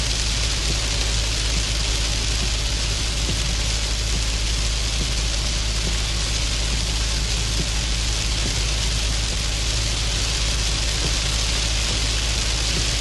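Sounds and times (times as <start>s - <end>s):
heavy rain hissing: 0.0s - 13.0s
low rumble: 0.0s - 13.0s.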